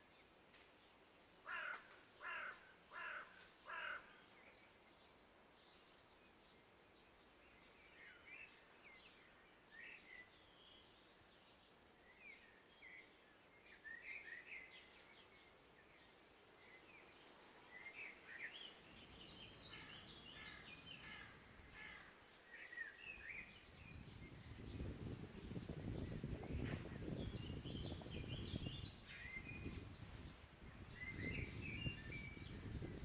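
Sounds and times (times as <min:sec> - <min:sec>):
songbirds chirping and trilling: 0:00.0 - 0:33.0.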